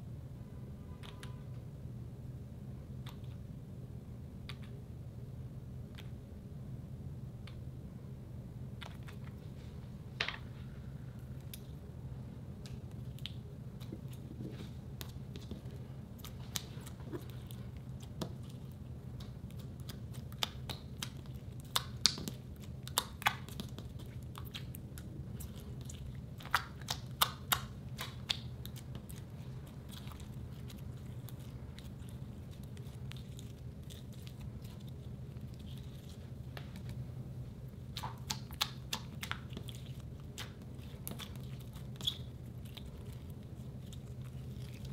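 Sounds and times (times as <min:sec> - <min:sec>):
faint low hum: 0:00.0 - 0:44.9.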